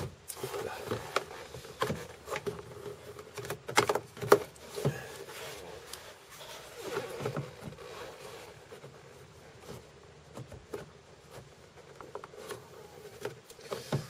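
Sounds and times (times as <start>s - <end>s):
plastic clicks and scrapes: 0.0s - 14.0s.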